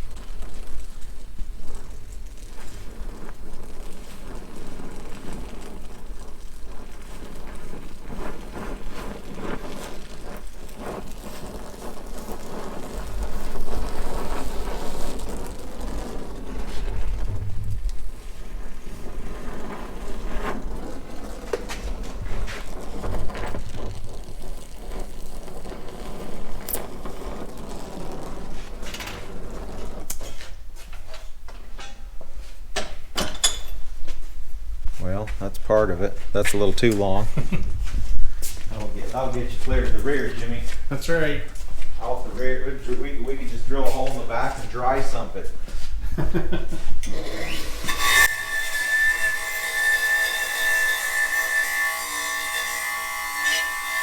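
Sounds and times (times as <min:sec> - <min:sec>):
torch flame hissing and crackling: 0:00.0 - 0:54.0.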